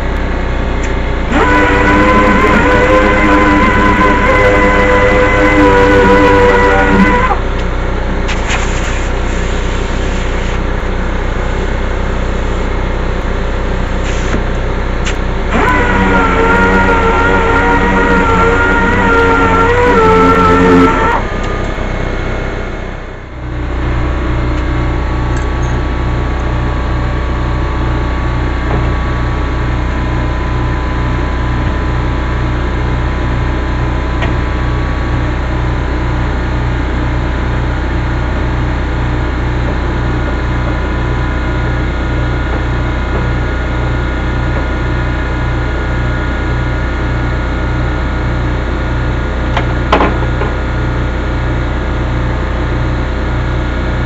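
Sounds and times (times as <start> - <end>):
pulsing machine drone: 0.0 - 54.0.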